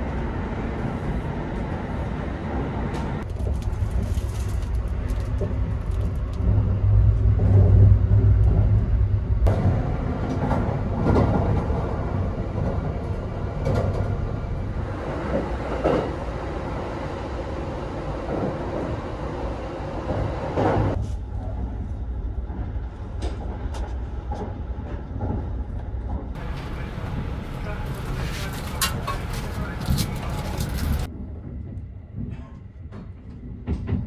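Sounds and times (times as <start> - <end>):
train running rumble: 0.0 - 34.0.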